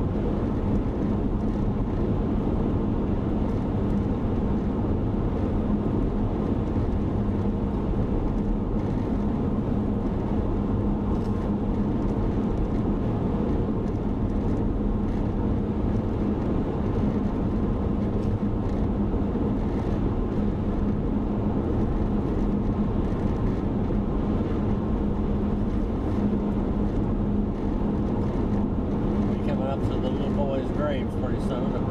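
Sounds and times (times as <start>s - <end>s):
car road and engine noise: 0.0s - 31.9s.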